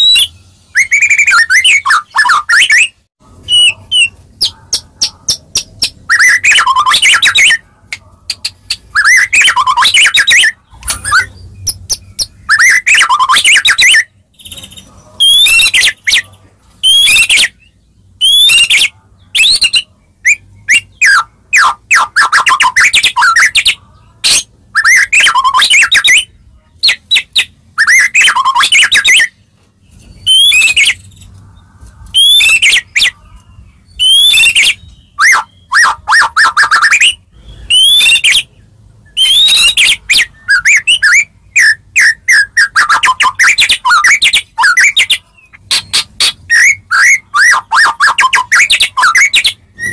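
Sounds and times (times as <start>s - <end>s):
bird singing whistles: 0.0s - 4.1s, 5.8s - 7.6s, 9.0s - 16.2s, 16.8s - 23.7s, 26.9s - 29.3s, 30.1s - 31.1s, 32.2s - 33.2s, 33.9s - 49.9s.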